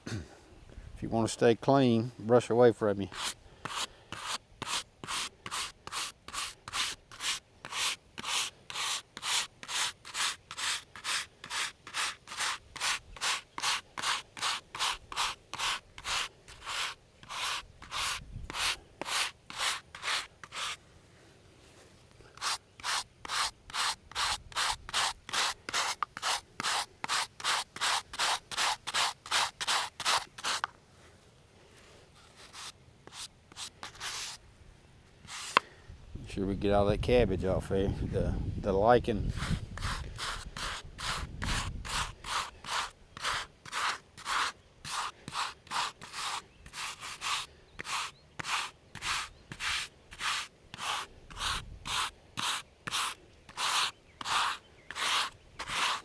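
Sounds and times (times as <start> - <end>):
brush scrubbing stone: 3.1 - 20.8, 22.4 - 30.7, 32.4 - 34.4, 35.3 - 35.6, 39.3 - 56.0.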